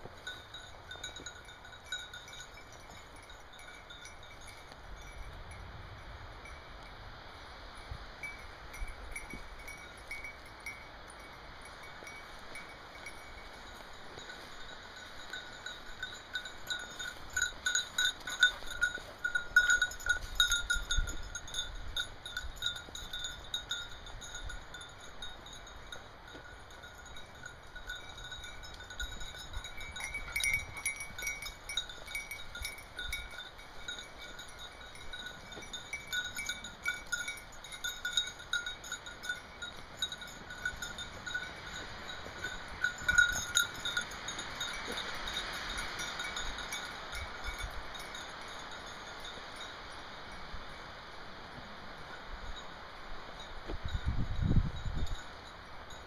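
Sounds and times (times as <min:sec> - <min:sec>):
dog collar bell ringing: 0:00.1 - 0:07.0, 0:08.2 - 0:50.8, 0:52.1 - 0:56.0.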